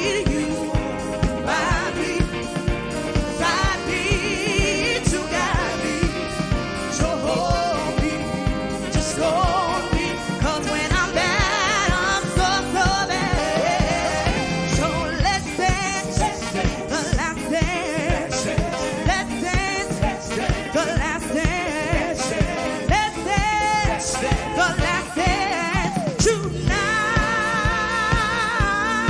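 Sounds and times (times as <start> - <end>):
live band playing: 0.0 - 29.0
steady drum beat: 0.0 - 29.0
vocalists singing: 0.0 - 29.0.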